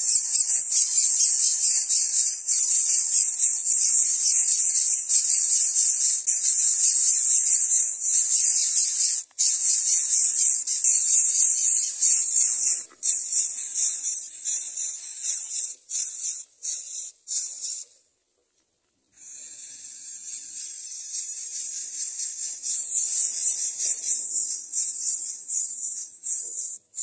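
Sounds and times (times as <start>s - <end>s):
nestlings rasping begging calls: 0.0s - 17.9s, 19.6s - 26.8s.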